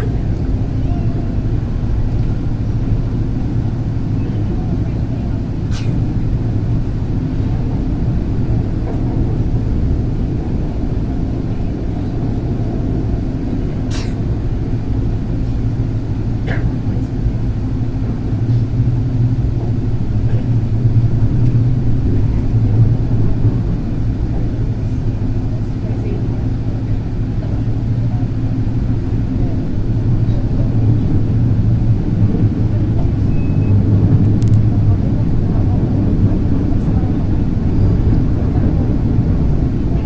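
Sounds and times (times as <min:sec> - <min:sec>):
light-rail train rumble and hum: 0:00.0 - 0:40.0.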